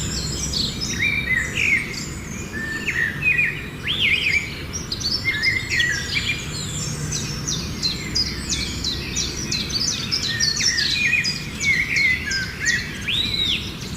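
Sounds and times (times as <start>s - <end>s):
many small birds chirping: 0.0s - 13.9s.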